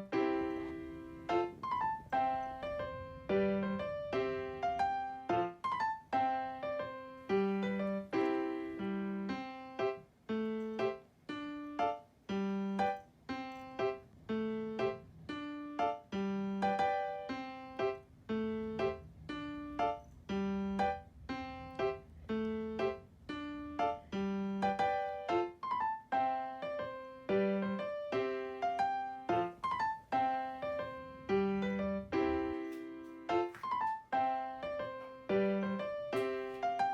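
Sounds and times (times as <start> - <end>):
light piano tune: 0.0 - 36.9.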